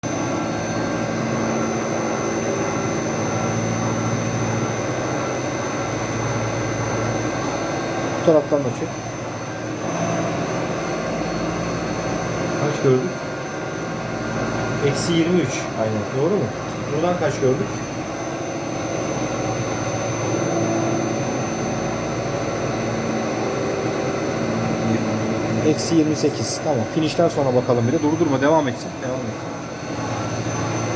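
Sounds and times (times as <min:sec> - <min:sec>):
high whine: 0:00.0 - 0:30.9
machining center humming: 0:00.0 - 0:30.9.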